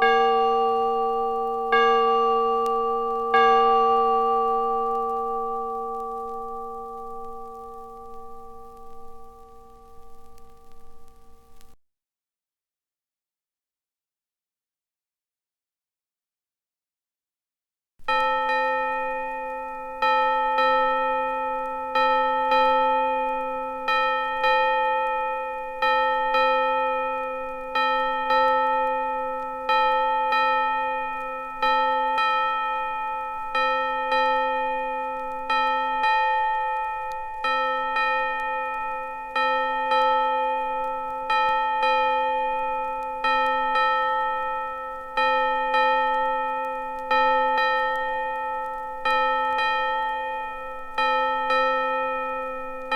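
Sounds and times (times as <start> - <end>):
bell ringing: 0.0 - 10.7, 18.1 - 52.9.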